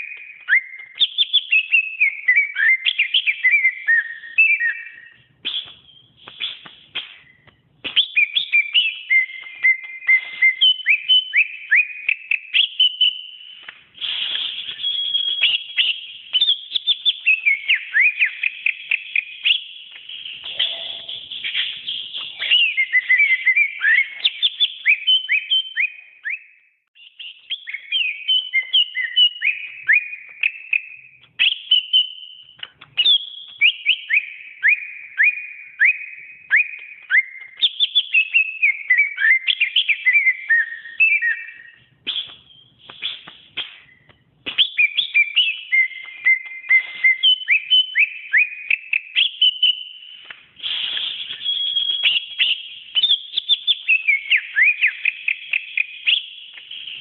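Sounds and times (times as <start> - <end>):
bird singing whistled song: 0.0 - 57.0.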